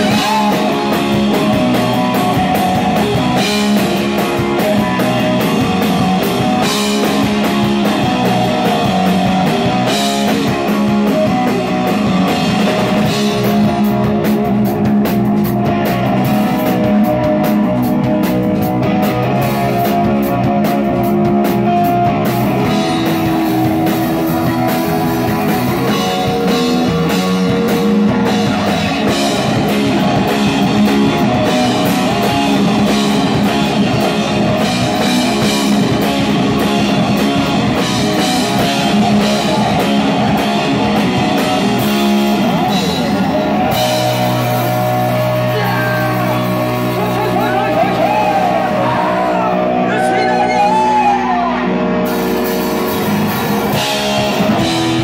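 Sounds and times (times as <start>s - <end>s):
drum kit with crashing cymbals: 0.0s - 48.4s
electric bass: 0.0s - 55.0s
electric guitar: 0.0s - 55.0s.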